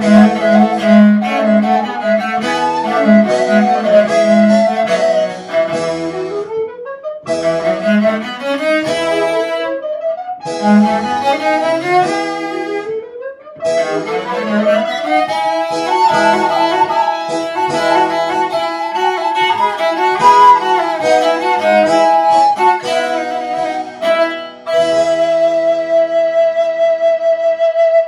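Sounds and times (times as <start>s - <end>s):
harpsichord: 0.0s - 9.8s, 10.4s - 13.0s, 13.6s - 26.0s
bowed viola da gamba: 0.0s - 27.2s.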